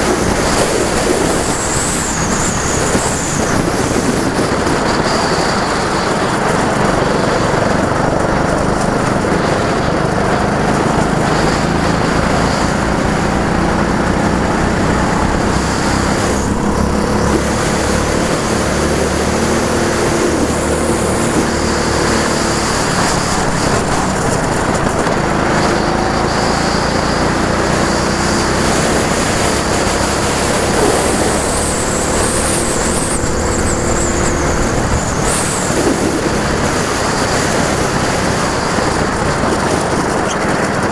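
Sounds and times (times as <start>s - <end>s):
go-kart engines revving: 0.0s - 40.9s
steady rush of noise: 0.0s - 40.9s.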